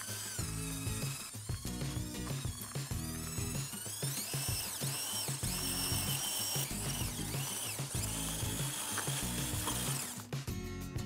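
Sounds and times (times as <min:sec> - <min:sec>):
toy motor whining: 0:00.0 - 0:10.3.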